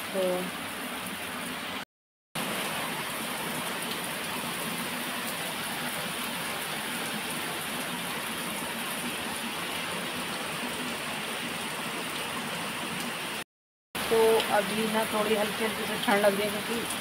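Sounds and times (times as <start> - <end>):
heavy rain pouring: 0.0 - 1.8, 2.4 - 13.4, 14.0 - 17.0.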